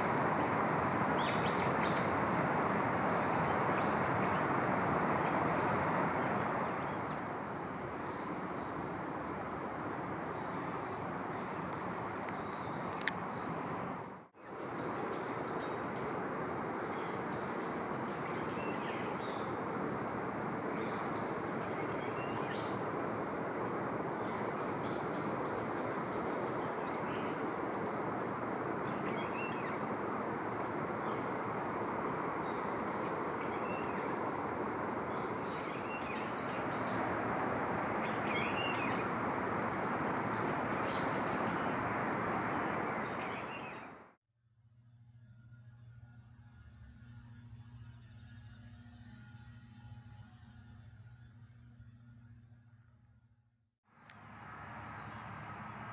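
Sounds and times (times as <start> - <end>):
rushing outdoor background noise: 0.0 - 44.2, 54.0 - 55.9.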